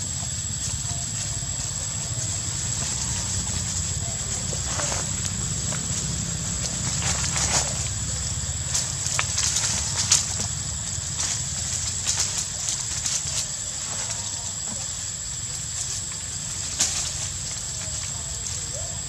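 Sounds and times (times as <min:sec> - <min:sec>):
dry leaves crackling and rustling: 0:00.0 - 0:19.0
low rumble: 0:00.0 - 0:19.0.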